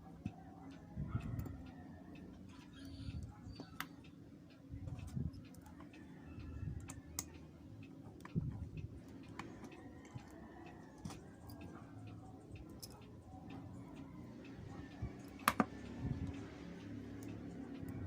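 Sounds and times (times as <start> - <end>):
tools clicking on plastic and metal: 1.2 - 11.8, 12.5 - 16.5.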